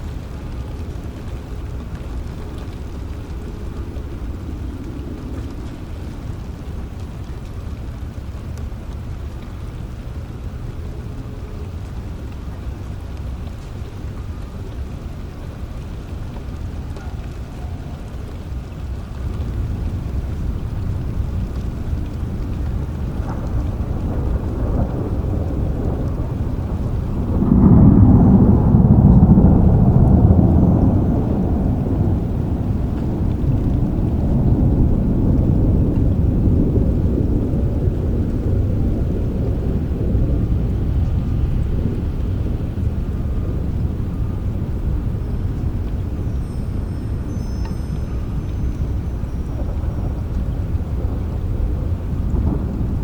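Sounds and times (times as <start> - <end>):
steady rain: 0.0 - 53.0
thunder rolling: 0.0 - 53.0.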